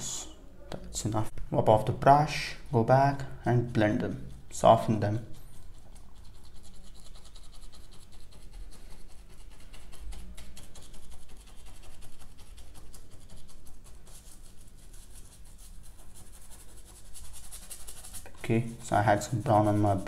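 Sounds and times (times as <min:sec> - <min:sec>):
paintbrush scratching on paper: 0:03.6 - 0:20.0.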